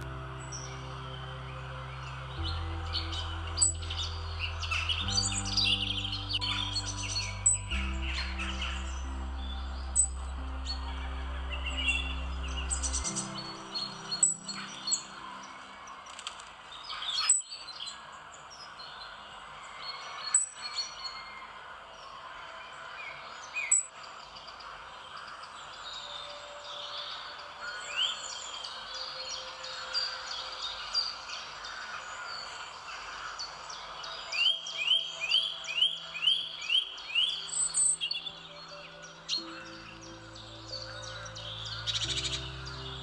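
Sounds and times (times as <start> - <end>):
wild birds calling: 0.0 - 18.2, 19.0 - 43.0.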